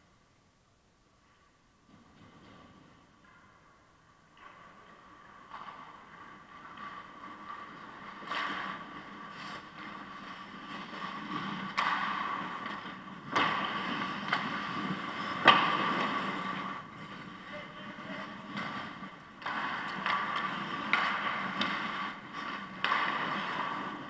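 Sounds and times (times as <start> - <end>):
skates scraping on ice: 1.8 - 24.0
sticks and puck knocking: 4.3 - 24.0.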